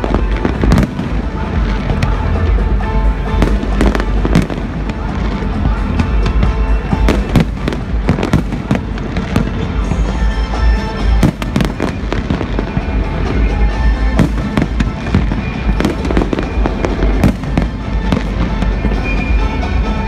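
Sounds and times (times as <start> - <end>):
fireworks bursts and bangs: 0.0 - 20.0.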